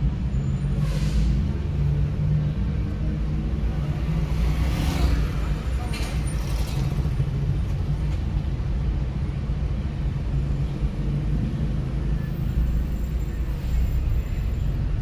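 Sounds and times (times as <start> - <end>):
traffic engines and road noise: 0.0 - 15.0.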